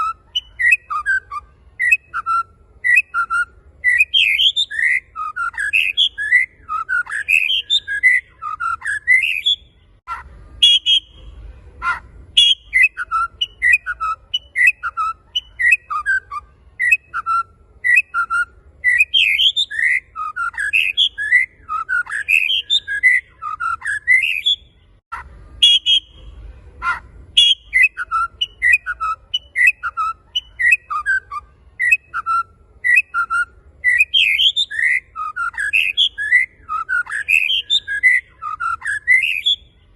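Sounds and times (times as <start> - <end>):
bird singing whistled phrases: 0.0 - 11.2, 11.8 - 26.2, 26.8 - 39.7.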